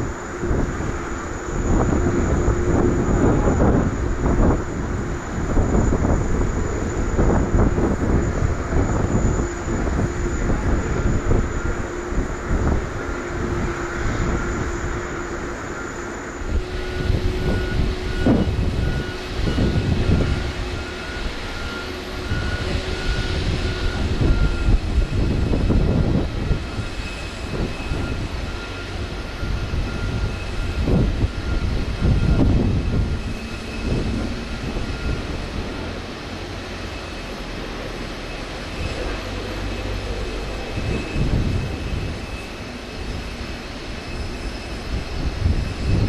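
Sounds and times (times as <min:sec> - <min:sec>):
jet engine whine: 0:00.0 - 0:46.0.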